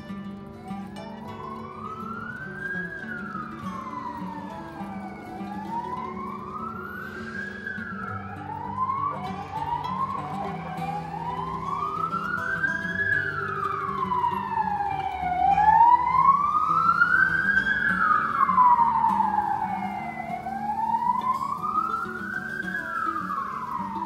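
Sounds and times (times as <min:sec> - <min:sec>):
emergency vehicle siren wailing: 0:00.0 - 0:24.0.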